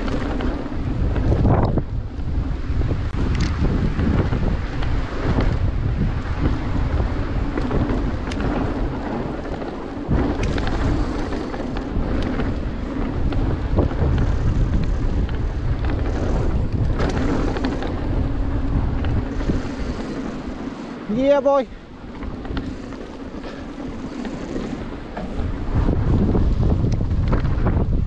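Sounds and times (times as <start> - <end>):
bike rattling over bumps: 0.0 - 28.0
tyres rolling on dirt: 0.0 - 28.0
wind rumble on microphone: 0.0 - 28.0.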